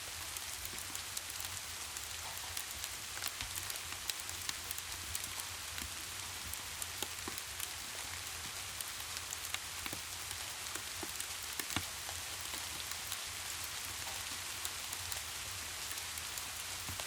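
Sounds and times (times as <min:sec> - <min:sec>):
fire ticks and pops: 0:00.5 - 0:07.8, 0:08.4 - 0:17.0.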